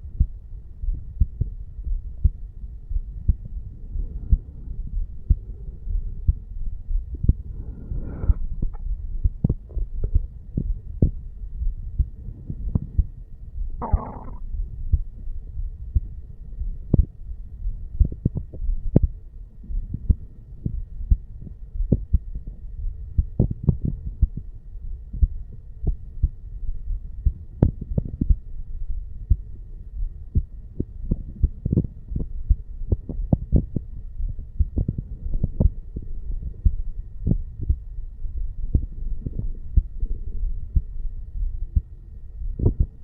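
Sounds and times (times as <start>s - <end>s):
heartbeat thuds: 0.0s - 43.0s.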